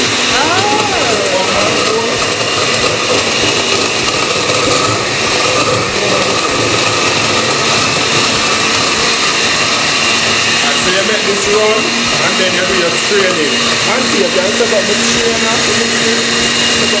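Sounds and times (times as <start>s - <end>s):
blender grinding: 0.0s - 17.0s.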